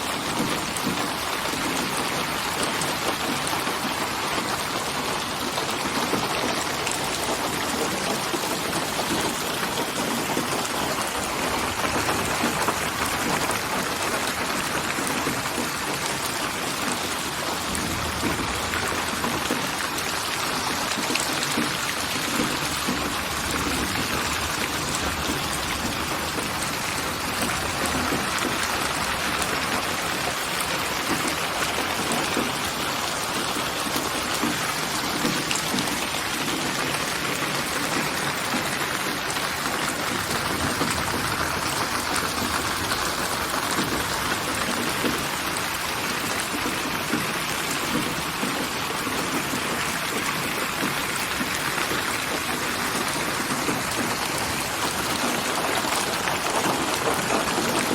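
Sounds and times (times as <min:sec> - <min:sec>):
steady rain pattering: 0:00.0 - 0:57.9.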